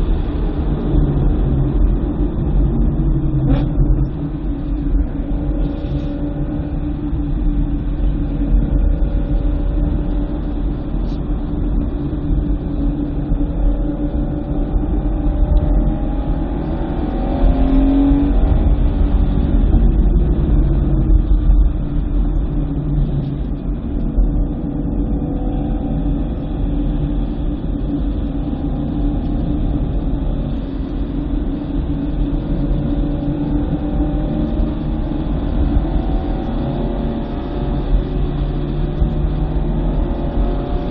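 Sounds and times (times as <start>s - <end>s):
car engine driven hard: 0.0s - 40.9s.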